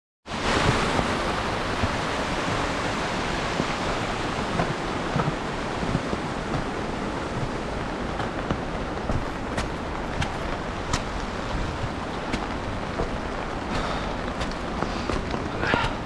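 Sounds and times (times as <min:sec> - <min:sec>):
stream rushing over rocks: 0:00.3 - 0:16.0.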